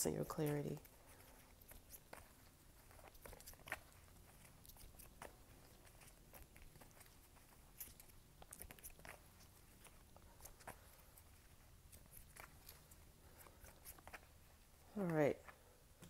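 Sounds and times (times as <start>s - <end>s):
cards being shuffled: 0.7s - 14.4s.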